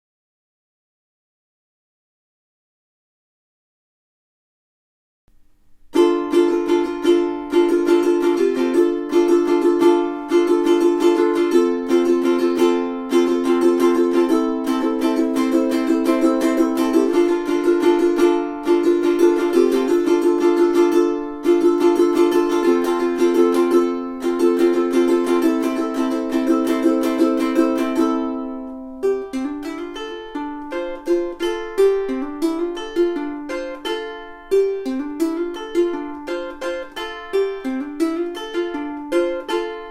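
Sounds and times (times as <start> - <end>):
ukulele strumming and picking: 5.3 - 39.9.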